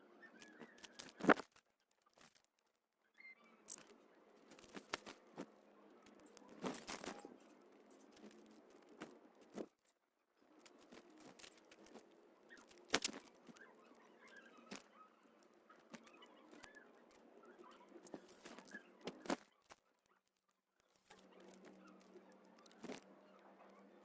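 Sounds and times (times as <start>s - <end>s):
birds pecking at seed: 0.2s - 24.0s.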